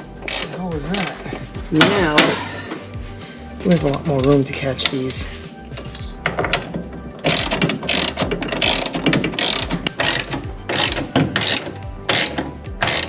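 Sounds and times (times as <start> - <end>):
ratchet wrench clicking: 0.0 - 13.0.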